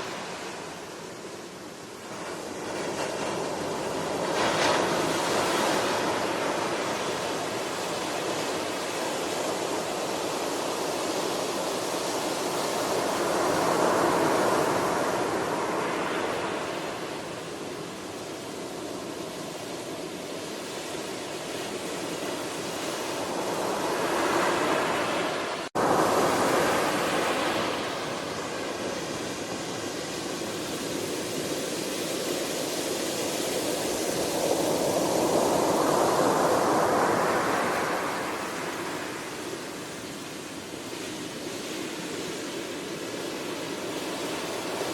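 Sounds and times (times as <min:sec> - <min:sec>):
ocean waves washing onto shore: 0:00.0 - 0:44.9.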